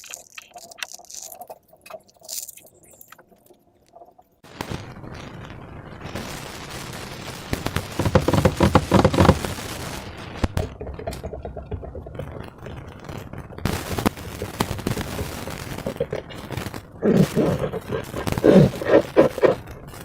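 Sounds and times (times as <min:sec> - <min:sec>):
slime crackling and popping: 0:00.0 - 0:03.6, 0:07.4 - 0:20.0.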